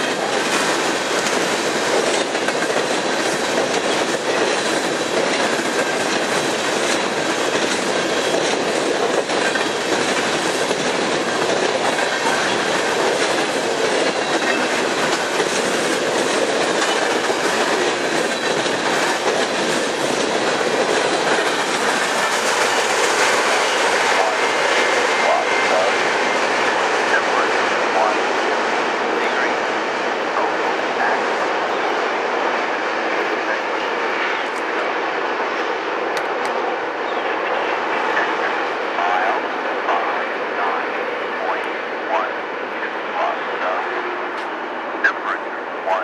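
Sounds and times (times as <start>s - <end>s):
freight train wheels rumbling on rails: 0.0s - 46.0s.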